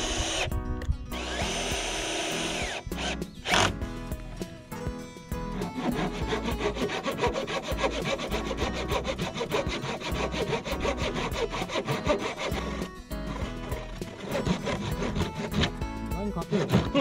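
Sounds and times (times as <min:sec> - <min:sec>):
hand saw cutting wood: 0:00.0 - 0:00.5, 0:01.1 - 0:03.9, 0:05.3 - 0:17.0.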